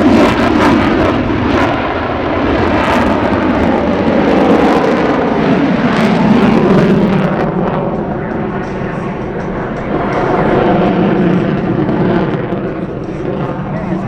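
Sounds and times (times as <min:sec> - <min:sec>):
aircraft engine roar: 0:00.0 - 0:14.0.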